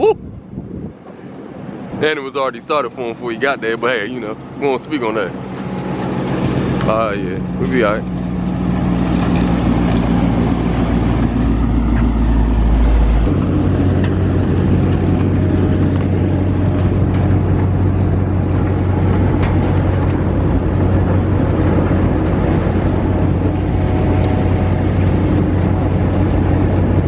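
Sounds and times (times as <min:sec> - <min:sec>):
vehicle running with road noise: 0:00.0 - 0:27.0.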